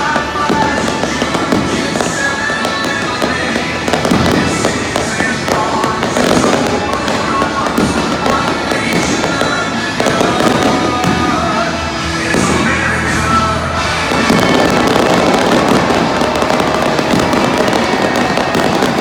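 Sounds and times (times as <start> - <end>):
fireworks bangs and crackle: 0.0 - 19.0
music playing: 0.0 - 19.0.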